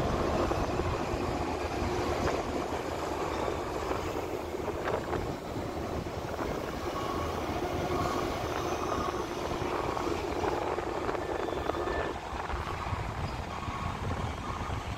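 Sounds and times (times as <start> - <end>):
crane mechanical drone: 0.0 - 14.9
faint crane whine: 0.0 - 14.9.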